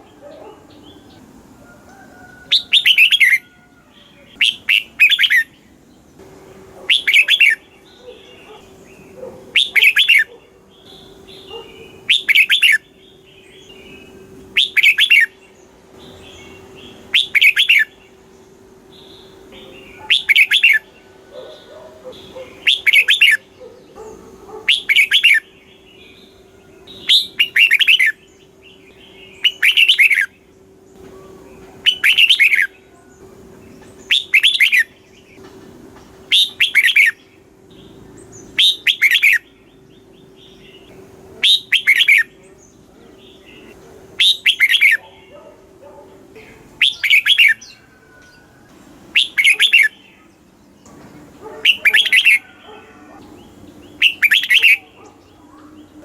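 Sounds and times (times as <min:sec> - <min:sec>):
bulbul singing chirpy song: 0:00.0 - 0:56.0.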